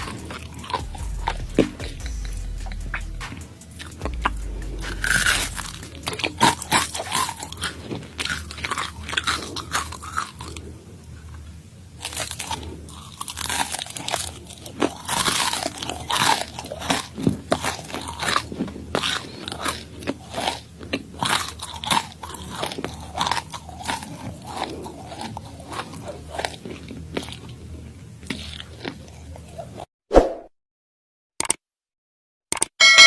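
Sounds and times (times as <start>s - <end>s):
crunching and chewing: 0.0s - 29.9s.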